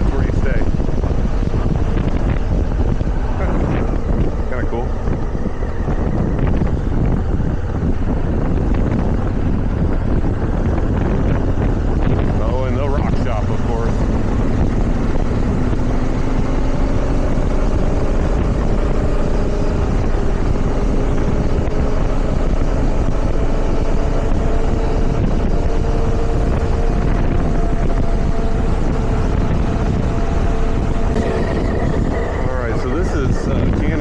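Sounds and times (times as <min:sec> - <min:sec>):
wind rush over microphone: 0:00.0 - 0:34.0.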